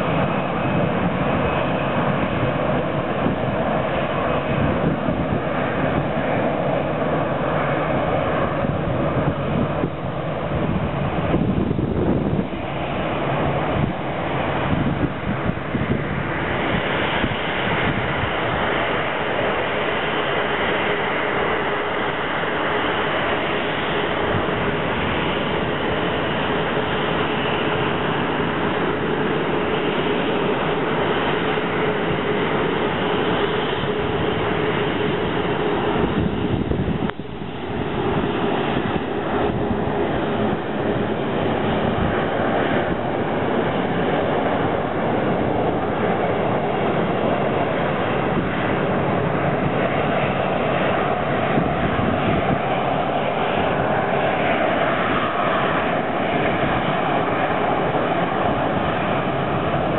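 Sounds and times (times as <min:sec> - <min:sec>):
jet engines rushing: 0:00.0 - 0:59.9.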